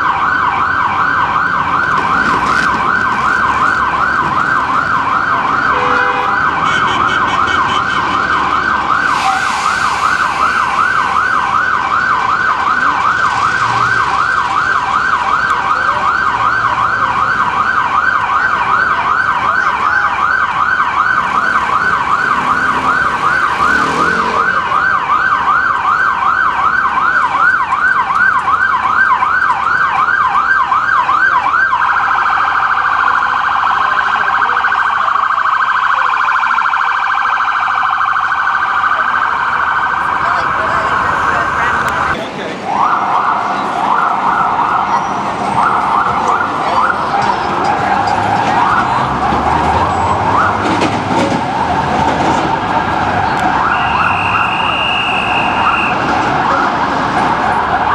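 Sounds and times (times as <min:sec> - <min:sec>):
ambulance siren yelping: 0:00.0 - 0:57.9.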